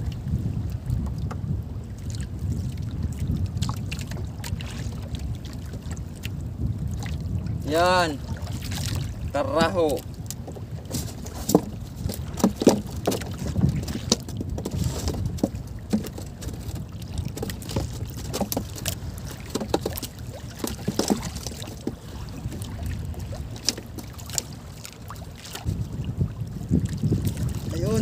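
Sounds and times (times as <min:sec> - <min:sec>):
knocks and splashes: 0:00.0 - 0:28.0
water lapping against boat hull: 0:00.0 - 0:28.0.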